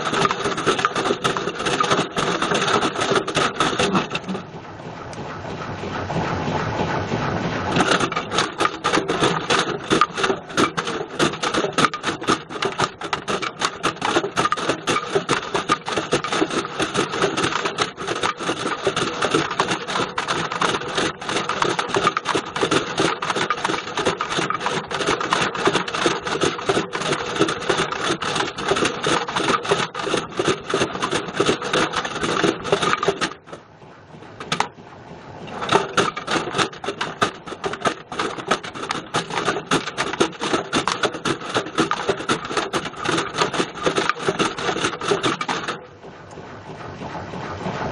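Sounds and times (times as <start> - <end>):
plastic and metal clattering in drum: 0.0 - 4.5, 7.7 - 33.6, 34.4 - 34.8, 35.5 - 45.9.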